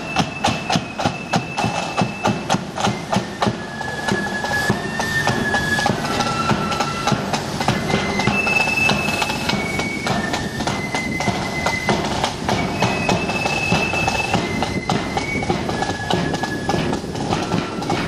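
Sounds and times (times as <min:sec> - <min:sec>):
flute melody: 0:00.0 - 0:18.0
snare and bass drum beats: 0:00.0 - 0:18.0.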